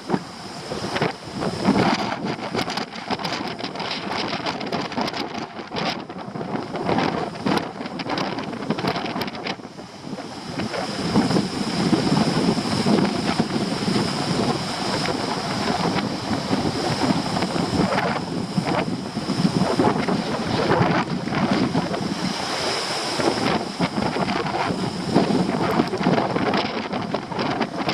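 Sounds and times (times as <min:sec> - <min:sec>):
surf crashing against rocks: 0:00.0 - 0:27.9
wind buffeting microphone: 0:00.0 - 0:27.9.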